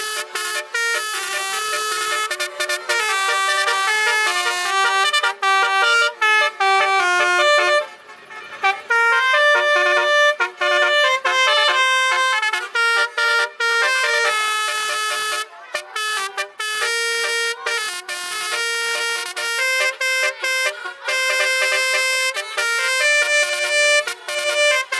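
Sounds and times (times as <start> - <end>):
truck air horns playing tune: 0.0 - 24.9.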